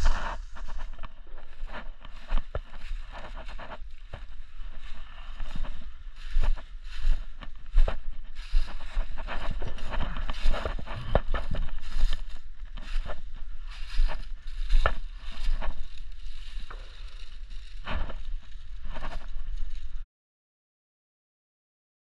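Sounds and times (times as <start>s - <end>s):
footsteps crunching through dry leaves: 0.0s - 20.0s
steady low rumble: 0.0s - 20.0s.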